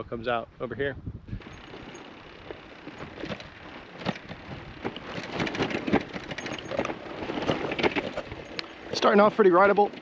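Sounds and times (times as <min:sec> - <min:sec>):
bicycle tyres crunching on grit: 0:01.4 - 0:10.0
bike clicks and rattles: 0:01.4 - 0:10.0.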